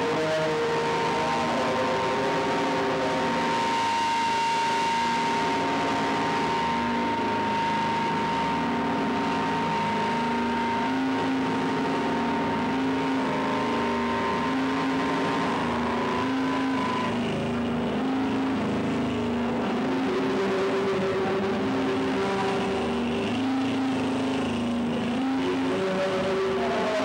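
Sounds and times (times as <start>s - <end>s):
dense noise wash: 0.0s - 27.0s
low held tones shifting pitch: 0.0s - 27.0s
steady high tone: 0.0s - 27.0s.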